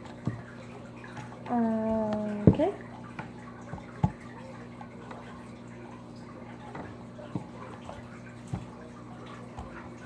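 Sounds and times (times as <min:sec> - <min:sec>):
background hum: 0:00.0 - 0:10.0.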